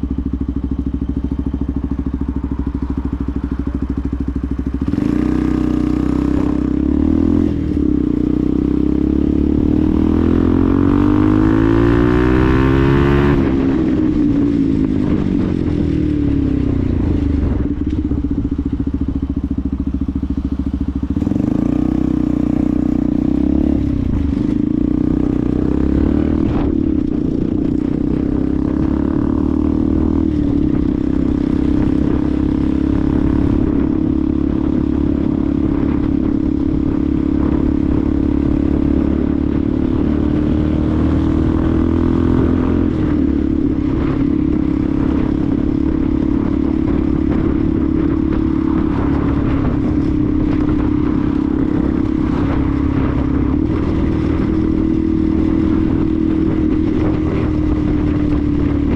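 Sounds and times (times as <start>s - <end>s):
motorcycle engine running: 0.0s - 58.9s
wind and road rumble: 0.0s - 58.9s.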